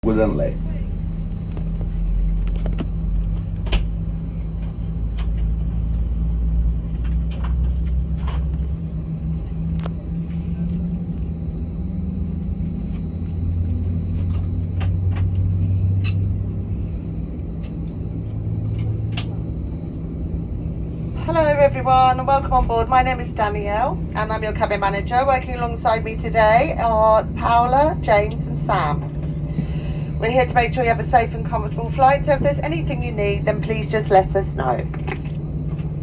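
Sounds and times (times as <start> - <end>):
aircraft cabin hum: 0.0 - 36.0.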